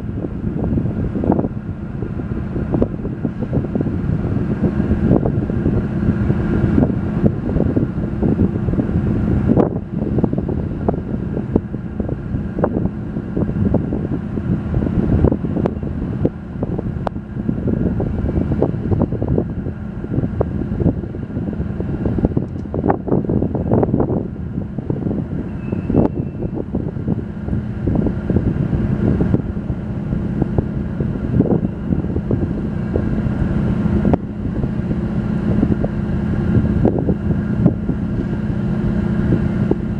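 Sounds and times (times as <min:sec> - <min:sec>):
ferry diesel engines droning: 0:00.0 - 0:39.9
wind buffeting microphone: 0:00.0 - 0:39.9.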